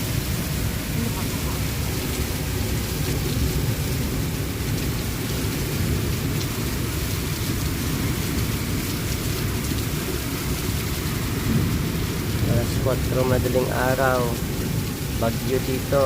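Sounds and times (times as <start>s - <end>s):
low thunder rumble: 0.0s - 15.9s
heavy rain pouring: 0.0s - 16.0s.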